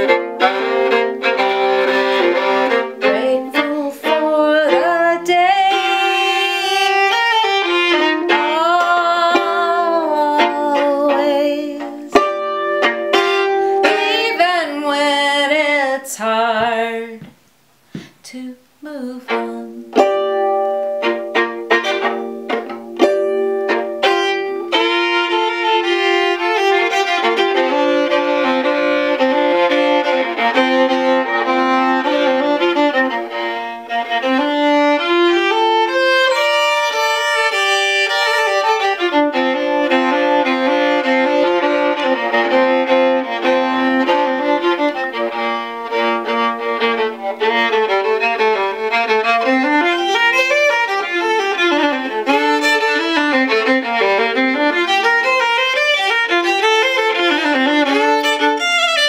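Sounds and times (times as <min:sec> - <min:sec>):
solo violin bowed: 0:00.0 - 0:17.3, 0:18.9 - 0:59.0.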